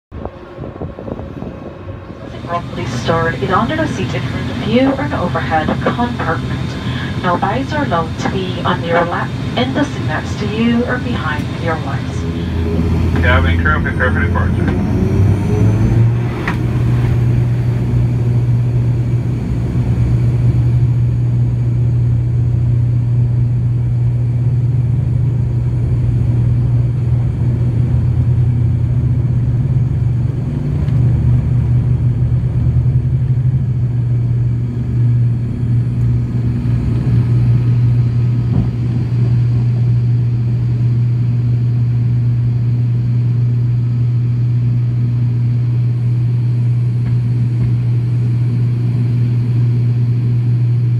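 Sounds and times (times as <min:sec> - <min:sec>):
propeller drone with rumble: 0:00.1 - 0:50.9.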